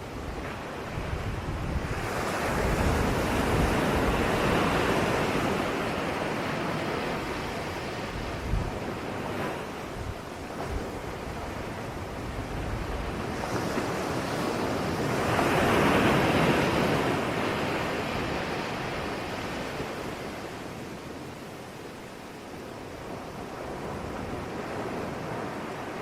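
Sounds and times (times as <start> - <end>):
ocean wave breaking: 0.0 - 26.0.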